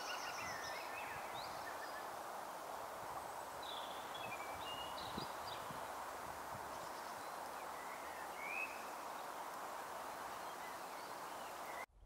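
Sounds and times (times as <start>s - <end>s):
small birds chirping: 0.0s - 11.9s
outdoor background hiss: 0.0s - 12.0s.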